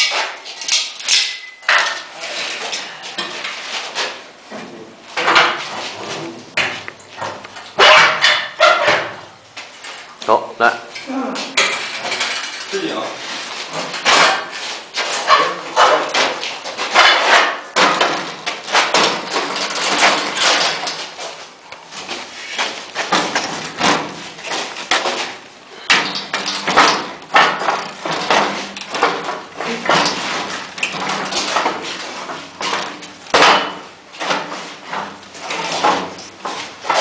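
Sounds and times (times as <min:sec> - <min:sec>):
metal knocks and clanks: 0:00.0 - 0:10.1, 0:11.0 - 0:37.0.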